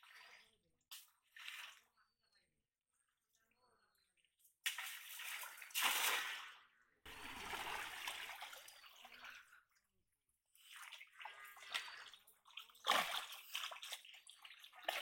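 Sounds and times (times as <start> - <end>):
water splashing and sloshing: 0.0 - 2.0, 4.4 - 15.0.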